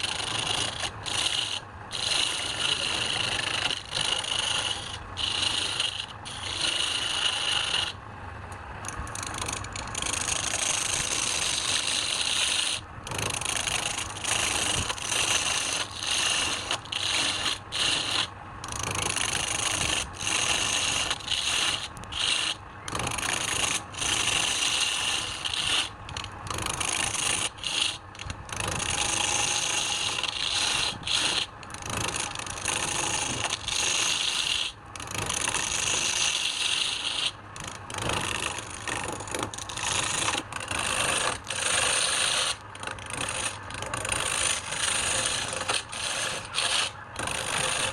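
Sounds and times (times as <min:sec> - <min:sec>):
lathe tool scraping spinning wood: 0:00.0 - 0:08.0, 0:08.8 - 0:47.9.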